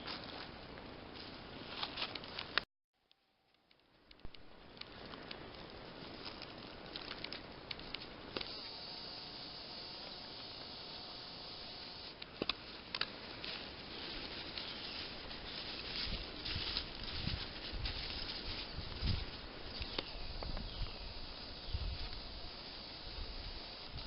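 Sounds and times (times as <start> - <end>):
forest rustling hiss: 4.5 - 24.0.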